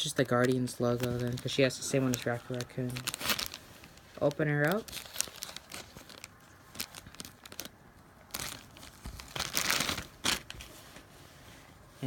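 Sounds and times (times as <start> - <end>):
plastic bag crinkling and tearing: 0.0 - 10.7.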